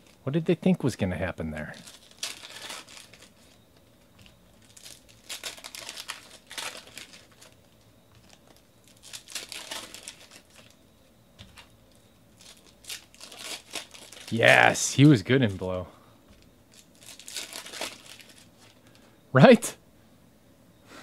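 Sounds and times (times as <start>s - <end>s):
foil wrapper crinkling: 1.6s - 10.8s, 11.4s - 19.0s.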